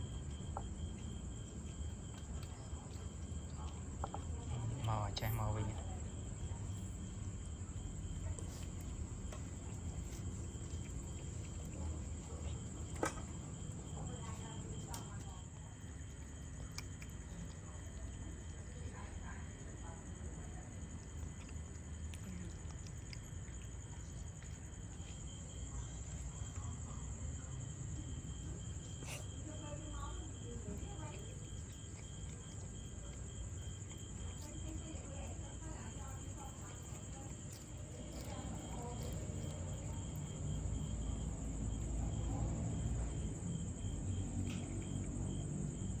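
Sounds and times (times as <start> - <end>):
lower insect trill: 0.0 - 46.0.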